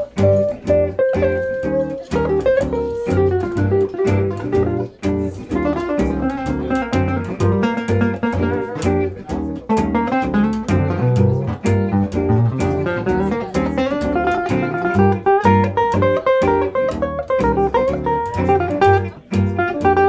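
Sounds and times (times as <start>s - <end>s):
lead acoustic guitar lines: 0.0s - 20.0s
rhythm guitar chords: 0.0s - 20.0s
walking double bass: 0.0s - 20.0s.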